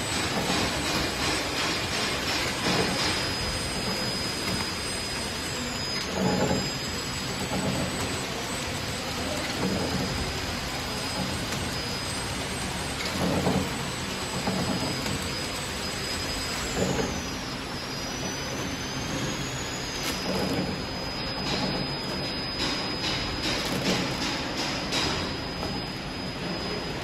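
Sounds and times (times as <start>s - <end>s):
faint high whine: 0.0s - 27.0s
packing machine running: 0.0s - 27.0s.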